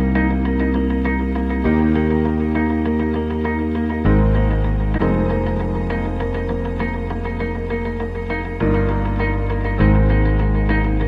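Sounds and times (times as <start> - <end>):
light plucked notes: 0.0 - 11.0
soft ambient instrumental music: 0.0 - 11.0.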